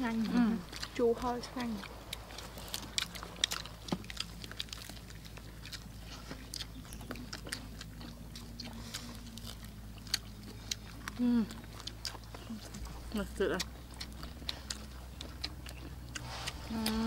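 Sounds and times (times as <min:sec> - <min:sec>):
crunchy chewing of fried chicken: 0:00.0 - 0:17.0.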